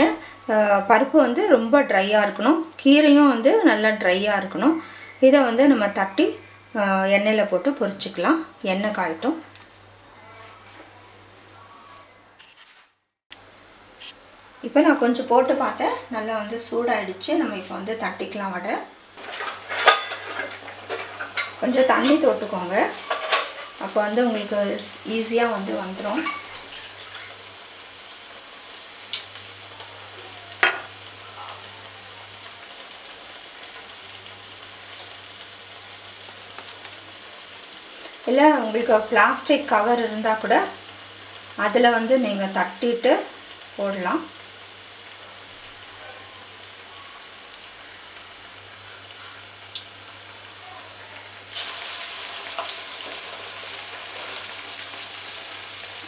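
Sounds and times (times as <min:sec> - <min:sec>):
hot oil sizzling: 0:00.0 - 0:56.0.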